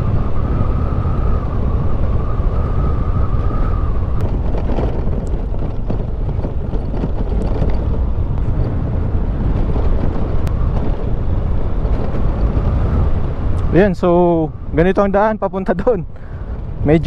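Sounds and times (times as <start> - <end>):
wind rush on microphone: 0.0 - 17.0.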